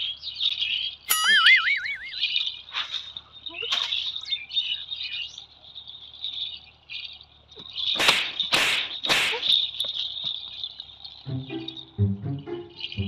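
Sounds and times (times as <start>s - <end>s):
crickets chirring: 2.2s - 13.0s.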